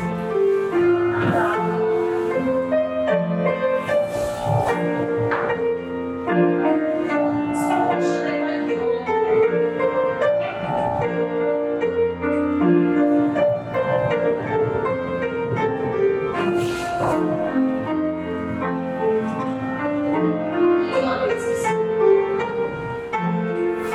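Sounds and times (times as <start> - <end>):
piano melody over chords: 0.0 - 23.9.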